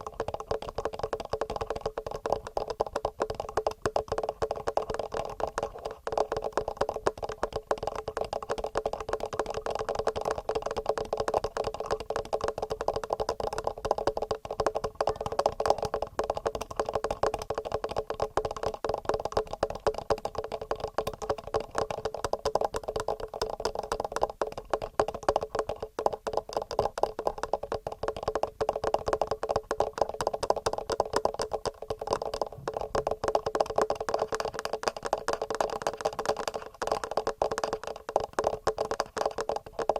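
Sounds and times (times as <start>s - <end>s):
fingertips tapping on microphone: 0.0s - 39.9s.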